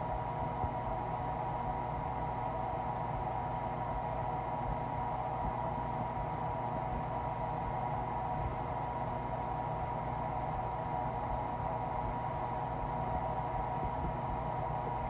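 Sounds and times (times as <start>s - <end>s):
steady hum with hiss: 0.0s - 15.0s.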